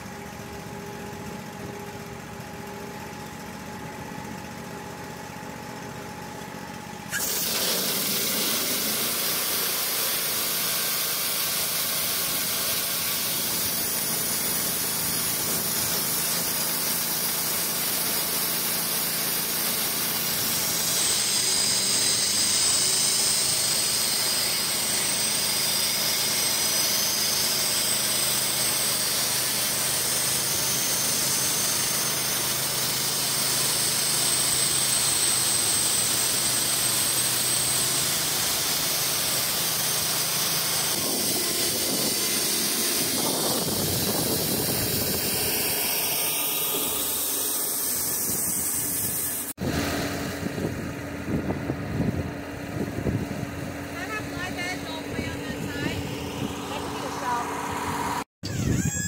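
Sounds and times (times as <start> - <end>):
sawmill engine running: 0.0 - 59.0
band saw blade whine: 5.8 - 59.0.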